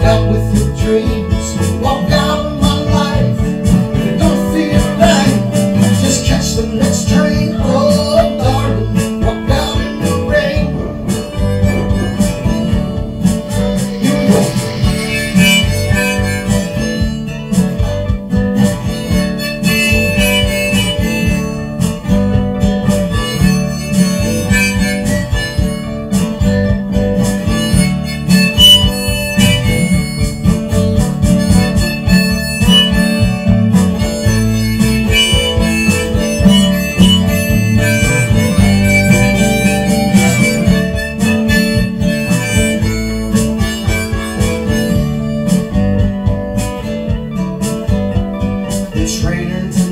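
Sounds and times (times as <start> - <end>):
harmonica: 0.0 - 49.9
strummed acoustic guitar: 0.0 - 49.9.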